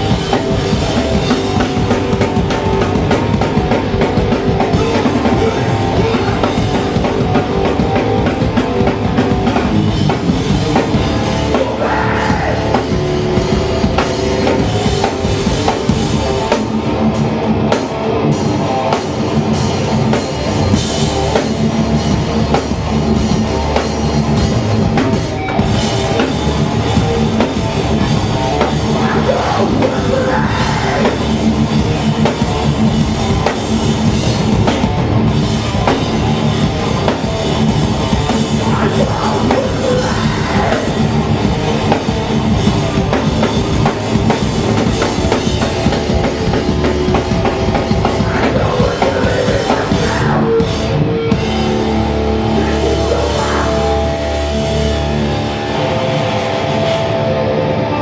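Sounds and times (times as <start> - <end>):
fast drumming: 0.0 - 55.0
distorted guitar: 0.0 - 58.0
punk band playing live: 0.0 - 58.0.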